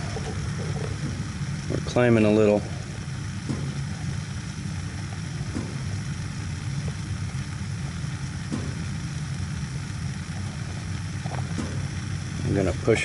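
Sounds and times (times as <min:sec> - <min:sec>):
gas burner flames rumbling: 0:00.0 - 0:13.0.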